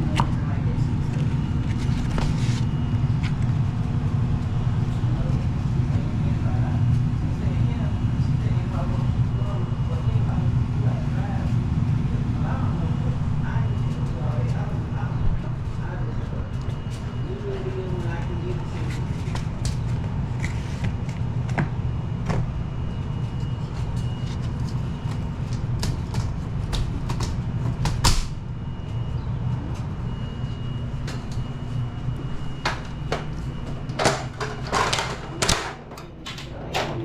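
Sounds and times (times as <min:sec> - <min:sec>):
hvac system humming: 0:00.0 - 0:37.0.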